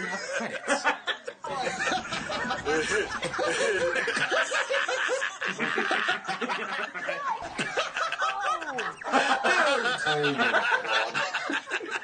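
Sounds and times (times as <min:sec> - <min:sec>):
men laughing: 0:00.0 - 0:12.0.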